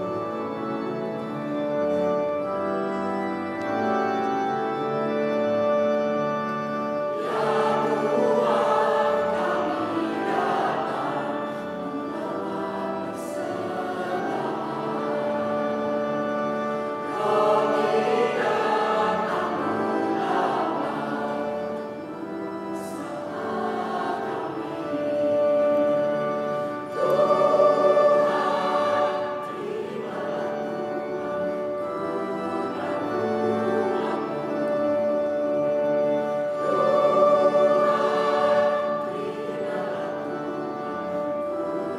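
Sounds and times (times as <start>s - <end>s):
choir singing a hymn: 0.0s - 41.9s.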